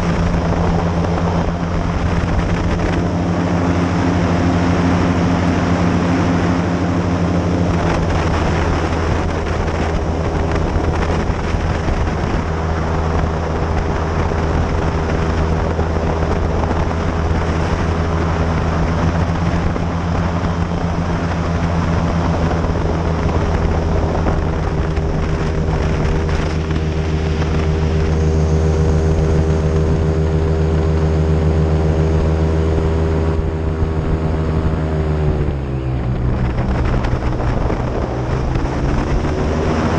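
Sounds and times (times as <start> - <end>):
airboat engine and propeller: 0.0 - 39.9
rushing air: 0.0 - 39.9.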